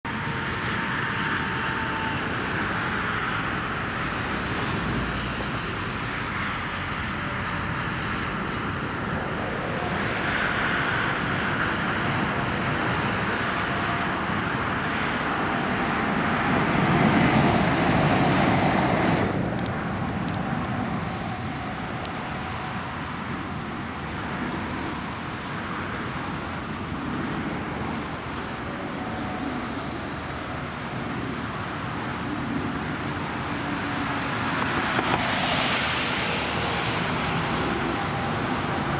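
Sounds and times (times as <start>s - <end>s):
train passing at speed: 0.1s - 38.9s.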